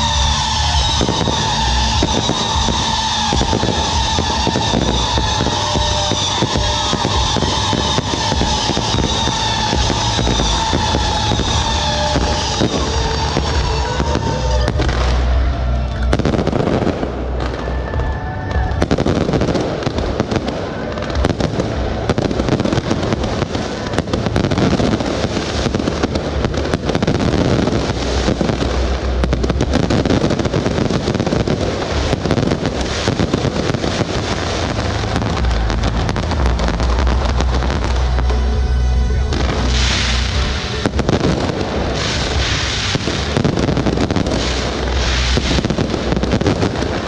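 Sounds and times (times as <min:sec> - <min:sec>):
fireworks crackling and banging: 0:00.0 - 0:47.0.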